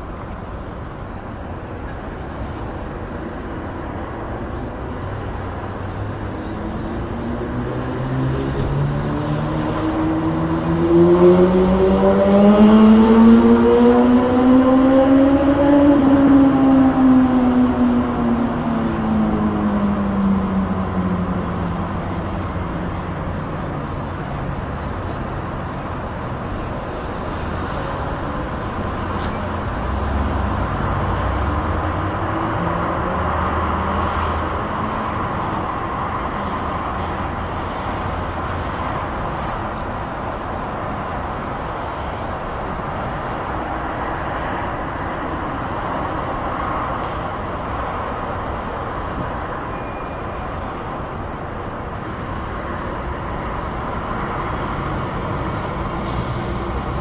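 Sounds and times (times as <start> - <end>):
distant motorway traffic: 0.0 - 57.0.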